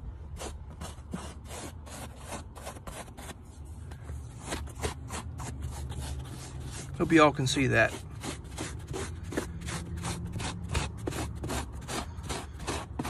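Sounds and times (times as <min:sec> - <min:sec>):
brush scraping carpet: 0:00.4 - 0:13.0.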